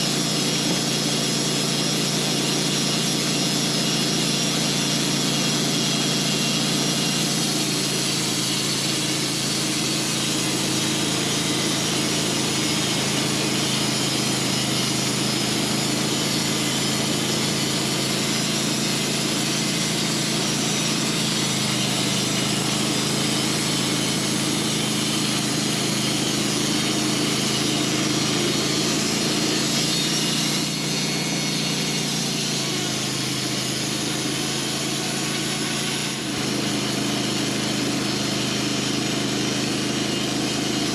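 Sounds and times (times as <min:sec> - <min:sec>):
sawmill engine running under load: 0:00.0 - 0:40.9.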